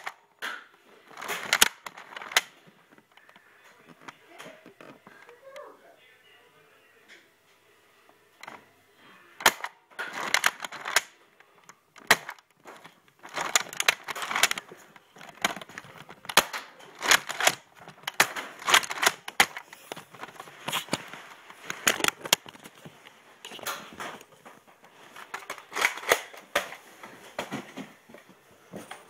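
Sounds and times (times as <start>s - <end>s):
recording device handling noise: 0.0s - 5.7s, 7.9s - 8.7s, 9.4s - 29.0s.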